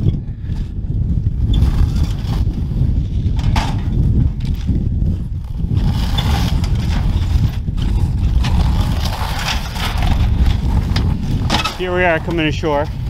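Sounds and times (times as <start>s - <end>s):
low rumble: 0.0s - 13.0s
plastic sled scraping over snow: 1.4s - 13.0s.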